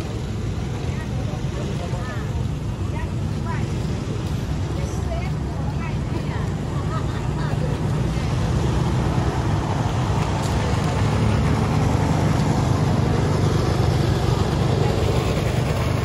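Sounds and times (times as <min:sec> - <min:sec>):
cars and motorbikes passing: 0:00.0 - 0:16.0.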